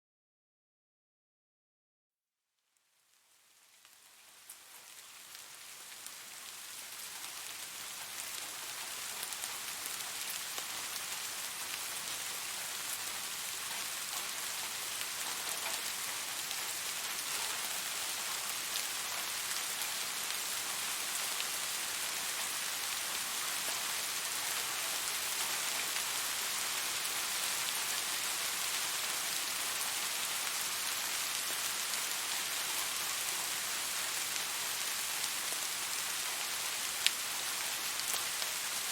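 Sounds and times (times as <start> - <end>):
steady rain hiss: 2.8 - 38.9.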